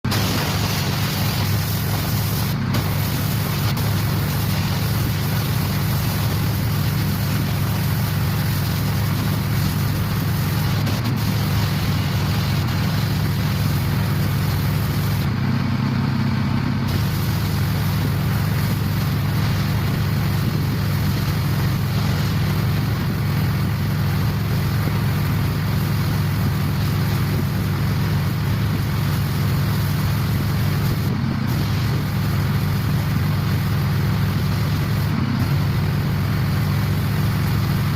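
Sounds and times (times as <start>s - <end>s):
pressure washer drone: 0.0s - 37.9s
high-pressure water spray hiss: 0.1s - 15.4s, 16.9s - 37.9s.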